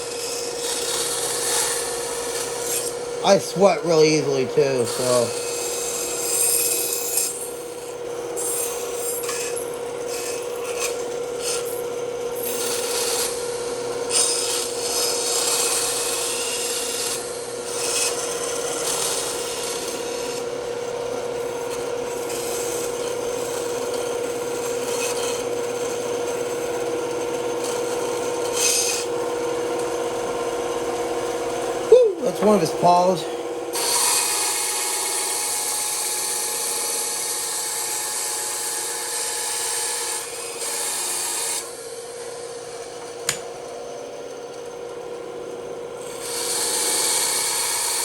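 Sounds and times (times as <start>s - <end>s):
bandsaw cutting wood: 0.0s - 43.5s, 46.0s - 48.0s.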